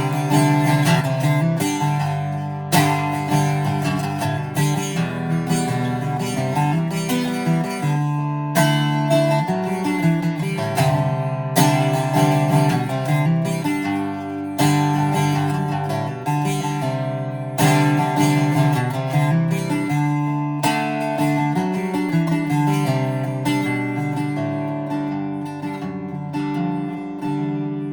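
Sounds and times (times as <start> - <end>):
acoustic guitar chords and picking: 0.0 - 27.9.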